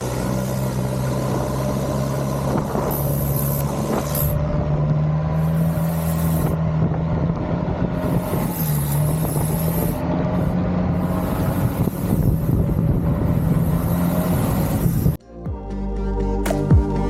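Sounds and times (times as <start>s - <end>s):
boat engine running: 0.0s - 15.2s.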